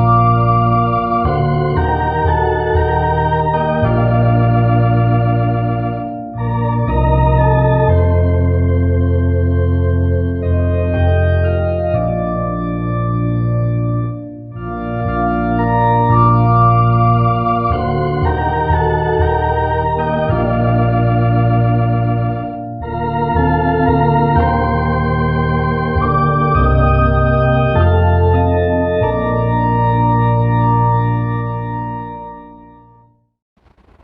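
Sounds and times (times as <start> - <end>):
organ playing sustained chords: 0.0 - 32.9, 33.6 - 34.0.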